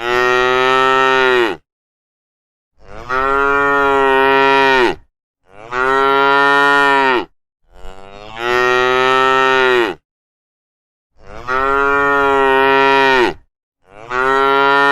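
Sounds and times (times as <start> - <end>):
cattle mooing: 0.0 - 1.6, 2.8 - 10.0, 11.2 - 14.9.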